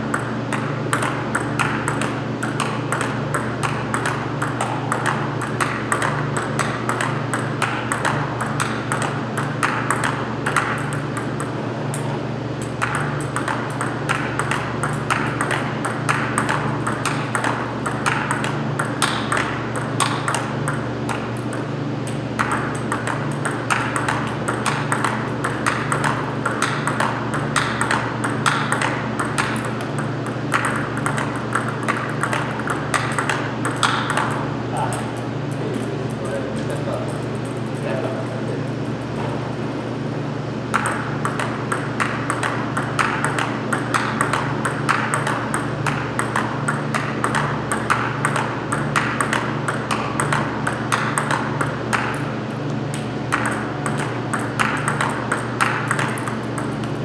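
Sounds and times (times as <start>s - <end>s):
steady low hum: 0.0s - 57.0s
table tennis ball clicking: 0.1s - 35.2s, 40.7s - 52.3s, 52.9s - 57.0s.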